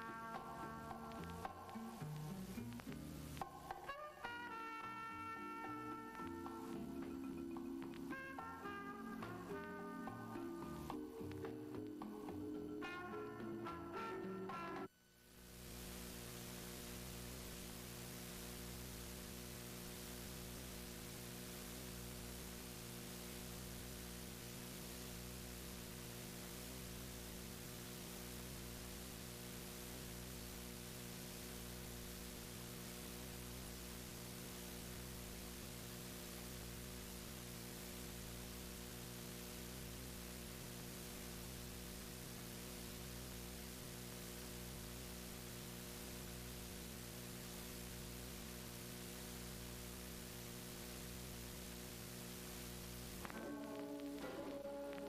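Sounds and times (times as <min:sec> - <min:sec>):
constant hiss: 0:00.0 - 0:55.0
electrical hum: 0:00.0 - 0:55.0.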